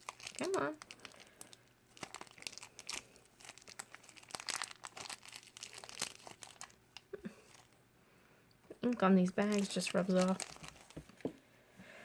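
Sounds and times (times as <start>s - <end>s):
plastic bag crinkling: 0.0s - 7.8s, 8.8s - 11.4s.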